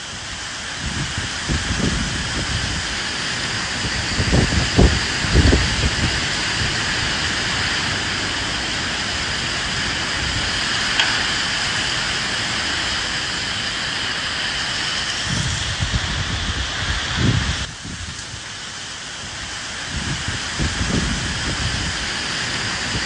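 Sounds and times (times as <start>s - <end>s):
steady rain falling: 0.0s - 23.0s
wind gusts rumbling: 0.0s - 23.0s.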